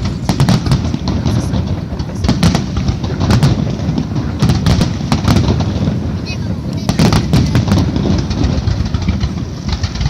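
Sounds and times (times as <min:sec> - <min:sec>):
fireworks booming and crackling: 0:00.0 - 0:10.0.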